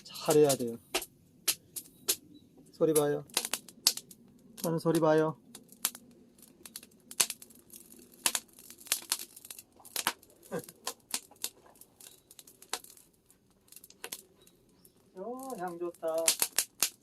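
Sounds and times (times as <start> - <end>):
tea leaves crackling in hot pan: 0.0 - 17.0.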